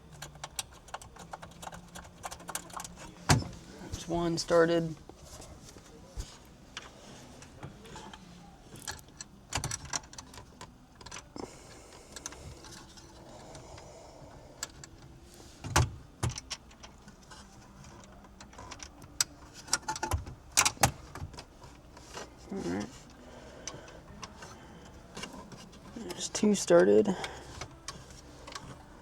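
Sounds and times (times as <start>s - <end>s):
bolts and plastic parts clicking: 0.0s - 5.1s, 6.7s - 29.0s.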